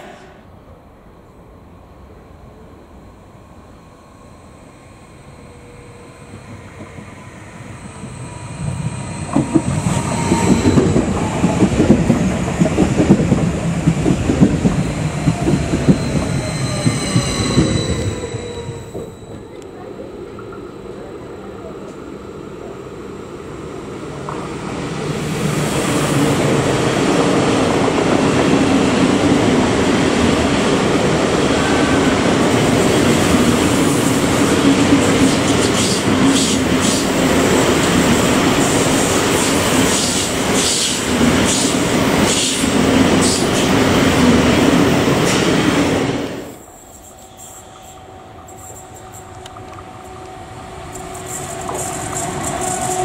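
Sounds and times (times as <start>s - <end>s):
high-speed train rushing past: 0.0s - 53.0s.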